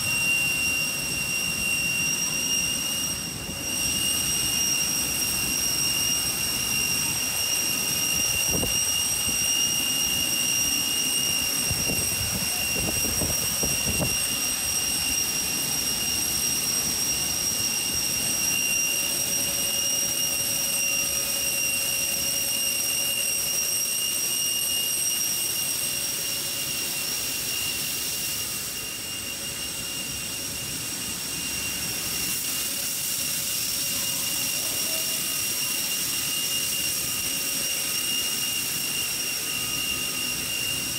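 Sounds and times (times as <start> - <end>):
jet turbine whine: 0.0 - 40.9.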